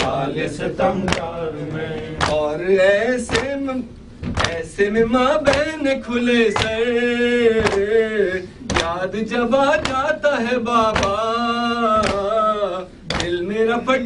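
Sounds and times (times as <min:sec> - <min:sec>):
man singing into a microphone: 0:01.4 - 0:14.0.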